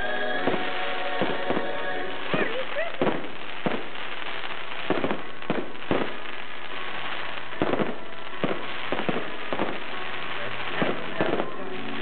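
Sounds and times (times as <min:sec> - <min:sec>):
fireworks bangs: 0:00.0 - 0:12.0
fireworks hiss and crackle: 0:00.0 - 0:12.0.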